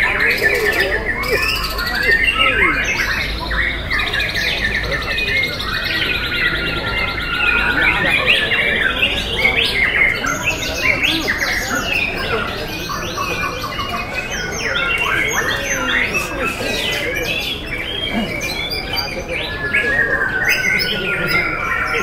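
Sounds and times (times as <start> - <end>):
crowd murmuring: 0.0 - 22.0
songbirds whistling and trilling: 0.0 - 22.0.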